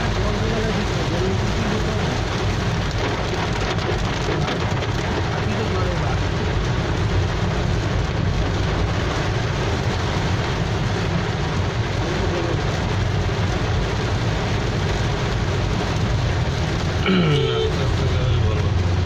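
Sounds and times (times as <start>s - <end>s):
car engine rumble: 0.0s - 19.0s
heavy rain on car roof: 0.0s - 19.0s
tyres on wet road: 0.0s - 19.0s.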